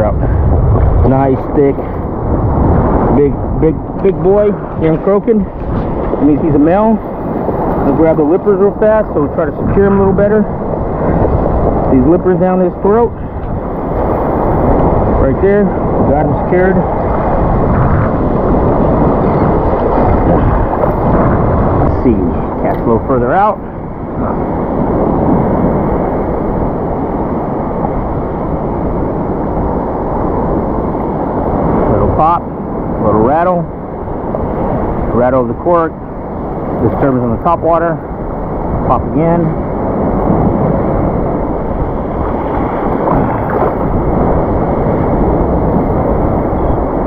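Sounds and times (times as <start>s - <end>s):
surf rushing: 0.0s - 47.0s
waves washing: 0.0s - 47.0s
wind on microphone: 0.0s - 47.0s.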